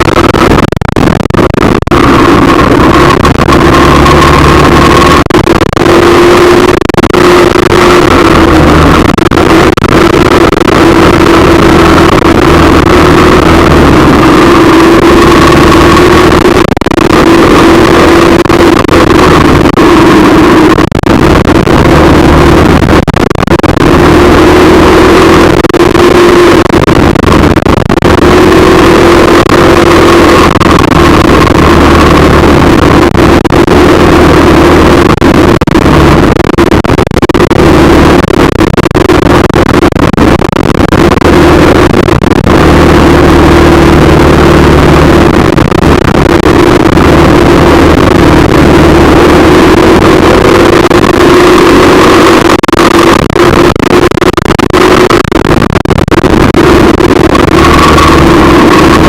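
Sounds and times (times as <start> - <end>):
vehicle engine and road drone: 0.0 - 59.0.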